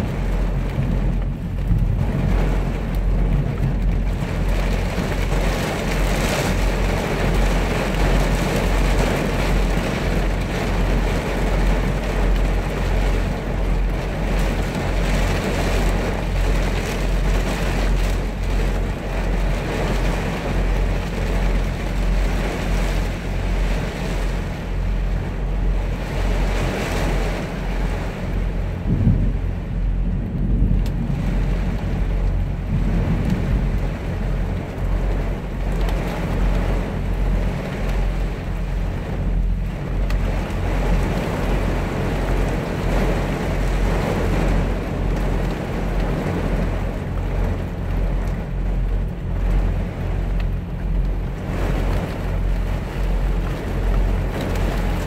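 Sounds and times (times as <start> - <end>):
heavy rain on truck cab: 0.0 - 55.0
low engine hum: 0.0 - 55.0.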